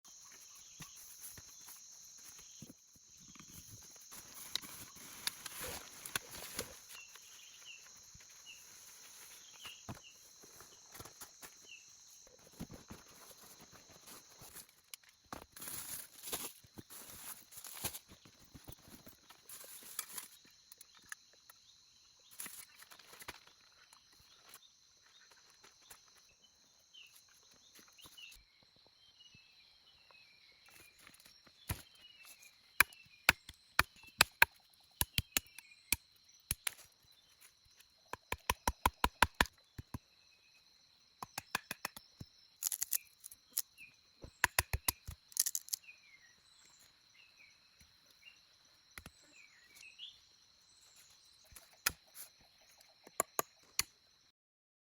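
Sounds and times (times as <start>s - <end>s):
insects droning: 0.1s - 54.3s.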